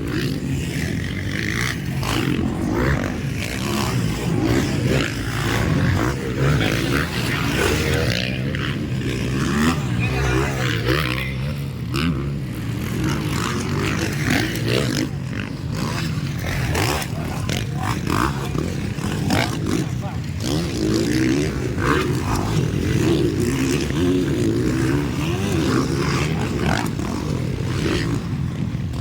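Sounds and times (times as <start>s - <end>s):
motocross bike engines revving: 0.0s - 29.0s.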